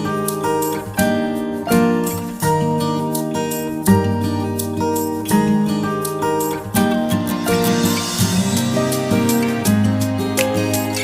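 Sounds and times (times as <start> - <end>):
plucked acoustic guitar chords: 0.0 - 11.0.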